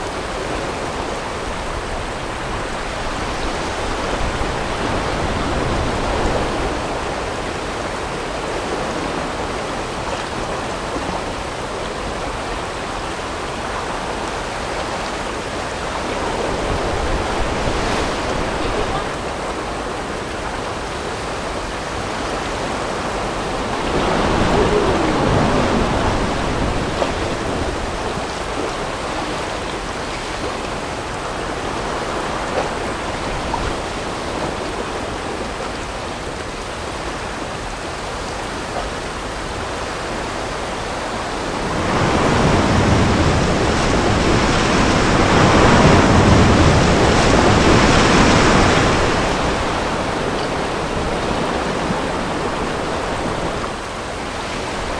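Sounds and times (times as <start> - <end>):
whitewater rushing: 0.0 - 54.9.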